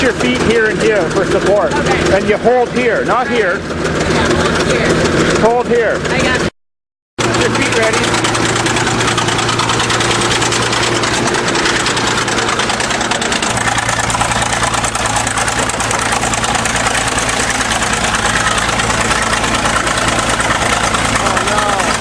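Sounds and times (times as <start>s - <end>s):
diesel engine idling: 0.0s - 6.5s, 7.2s - 22.0s.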